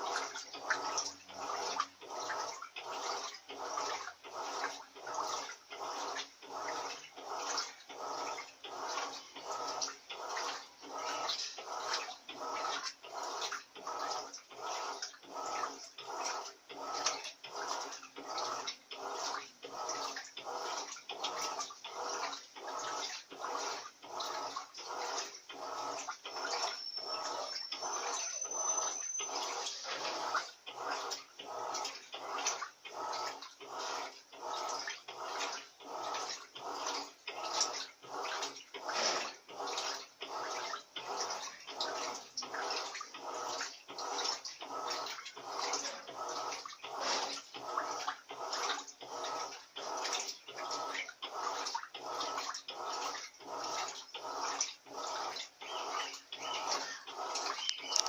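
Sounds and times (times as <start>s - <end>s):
washing machine churning: 0.0s - 58.0s
water sloshing: 0.0s - 58.0s.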